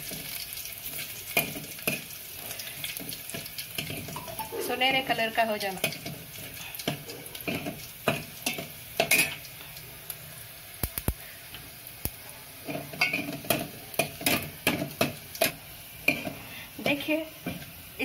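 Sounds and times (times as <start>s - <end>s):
garlic sizzling in hot oil: 0.0s - 18.0s.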